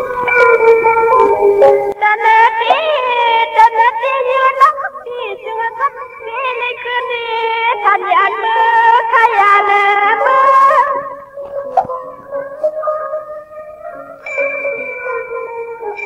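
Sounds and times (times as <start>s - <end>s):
high voice singing: 0.0s - 16.0s.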